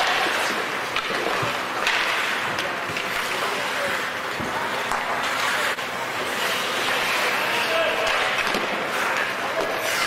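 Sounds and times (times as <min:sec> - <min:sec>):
hockey sticks and puck clacking: 0:00.0 - 0:10.0
skates hissing on ice: 0:00.0 - 0:10.0.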